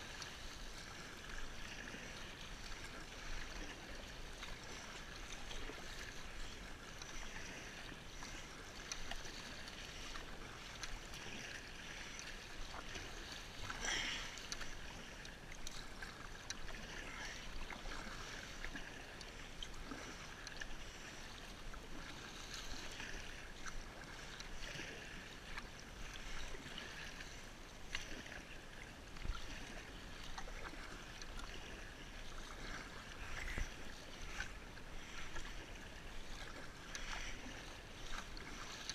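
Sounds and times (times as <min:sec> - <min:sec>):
kayak paddle splashing: 0:00.0 - 0:38.9
waves lapping against hull: 0:00.0 - 0:38.9.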